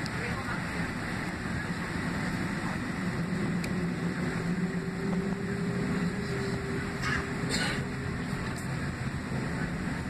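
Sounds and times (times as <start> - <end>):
aircraft engines rumbling: 0.0 - 10.0
faint steady whine: 0.0 - 10.0.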